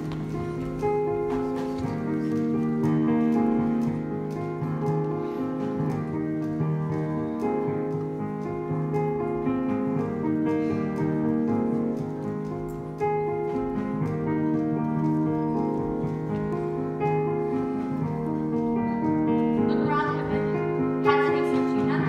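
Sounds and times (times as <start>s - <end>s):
piano: 0.0s - 22.0s.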